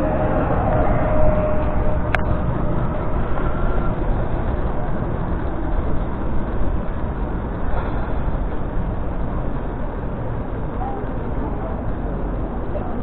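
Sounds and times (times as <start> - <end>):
road rumble: 0.0 - 13.0
wind rush: 0.0 - 13.0.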